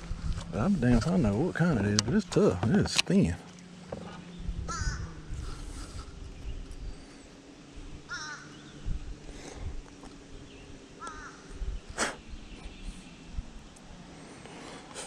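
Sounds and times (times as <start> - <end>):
bird calling: 0.6 - 15.0.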